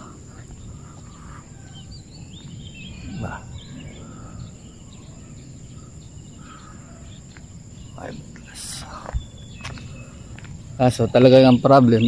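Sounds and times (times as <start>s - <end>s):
wind rumble on microphone: 0.0s - 11.8s
birds chirping: 0.0s - 12.0s
insects droning: 0.0s - 12.0s.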